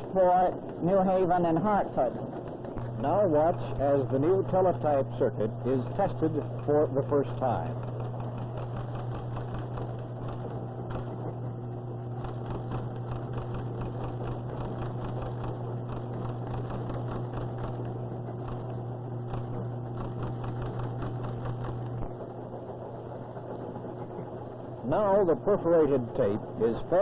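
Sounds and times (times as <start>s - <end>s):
low hum: 0.0s - 27.0s
teletype machines clattering: 0.0s - 27.0s.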